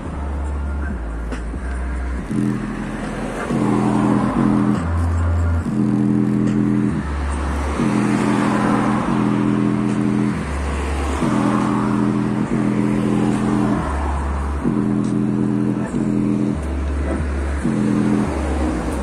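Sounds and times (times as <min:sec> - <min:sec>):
speaker playing bass-heavy music: 0:00.0 - 0:19.0
deep bass note: 0:02.0 - 0:19.0.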